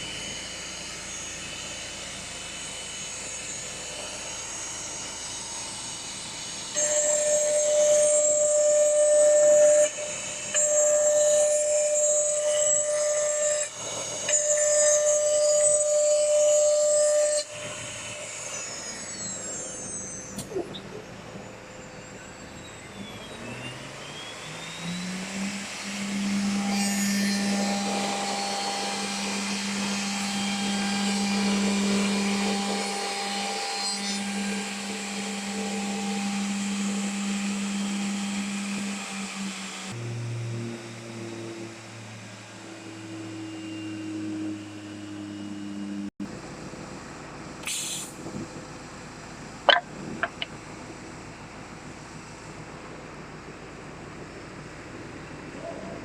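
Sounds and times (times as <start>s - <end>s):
motor spinning up: 0.0s - 46.1s
woodworking machine cutting: 0.0s - 46.1s, 47.6s - 52.7s.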